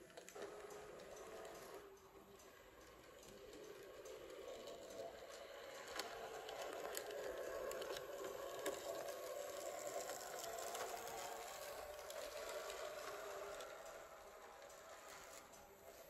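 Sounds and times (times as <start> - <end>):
model train motors whirring: 0.0 - 16.0.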